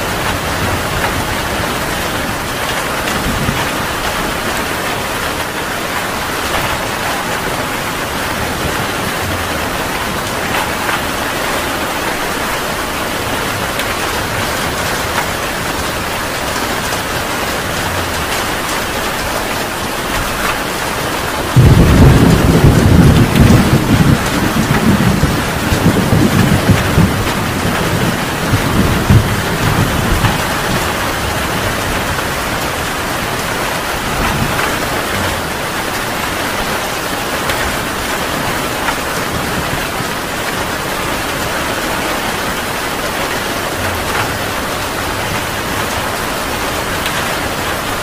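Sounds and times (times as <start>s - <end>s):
heavy rain: 0.0s - 48.0s
thunder rumbling: 0.0s - 48.0s.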